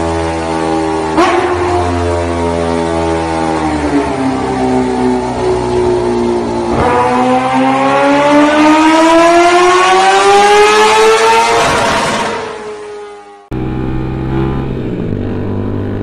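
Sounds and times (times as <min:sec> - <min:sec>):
high-revving engine accelerating: 0:00.0 - 0:16.0.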